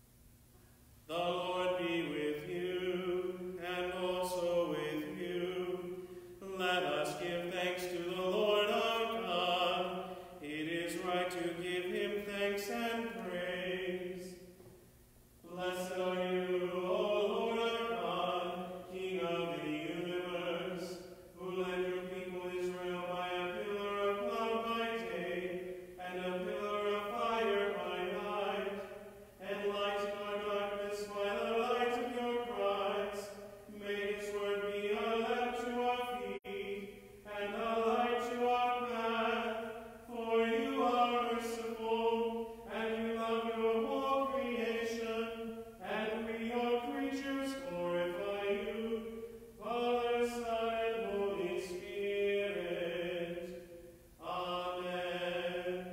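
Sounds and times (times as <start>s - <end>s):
man chanting: 1.1s - 14.4s, 15.4s - 53.6s, 54.2s - 55.9s.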